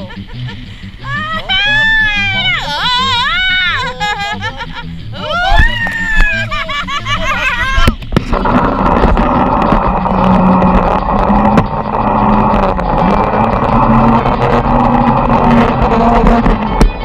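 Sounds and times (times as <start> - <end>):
speedboat engine running: 0.0 - 17.0.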